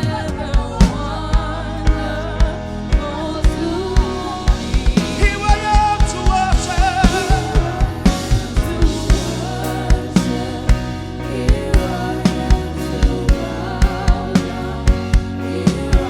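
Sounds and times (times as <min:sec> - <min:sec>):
drum kit beat: 0:00.0 - 0:16.0
gospel band playing: 0:00.0 - 0:16.0
singing: 0:00.0 - 0:16.0.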